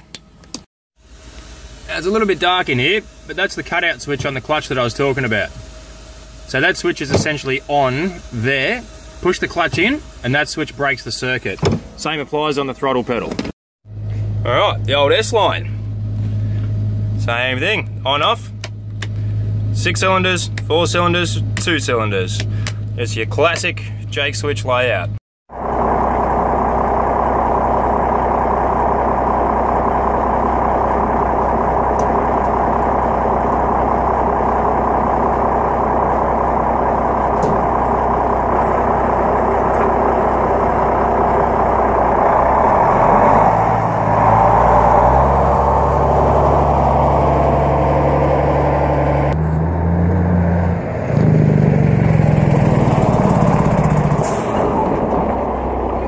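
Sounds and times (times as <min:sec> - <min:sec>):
truck diesel engine idling and revving: 0:00.0 - 0:56.0.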